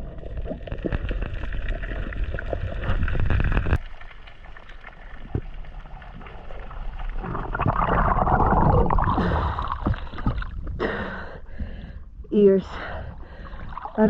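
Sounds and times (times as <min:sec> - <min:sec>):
muffled underwater rushing water: 0:00.0 - 0:14.0.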